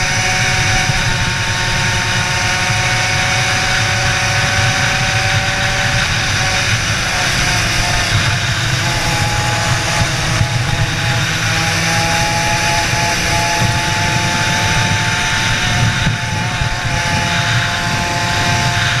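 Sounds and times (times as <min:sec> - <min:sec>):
kart engine at speed: 0:00.0 - 0:19.0
wind rush on microphone: 0:00.0 - 0:19.0.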